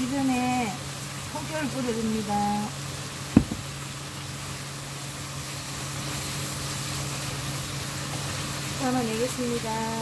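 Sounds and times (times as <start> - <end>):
stir-fry sizzling in a frying pan: 0.0 - 10.0.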